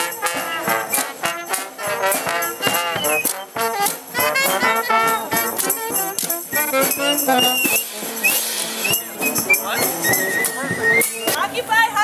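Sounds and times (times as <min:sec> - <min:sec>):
accordion: 0:00.0 - 0:11.4
bass drum beat: 0:00.0 - 0:11.4
brass band playing marching tune: 0:00.0 - 0:11.8.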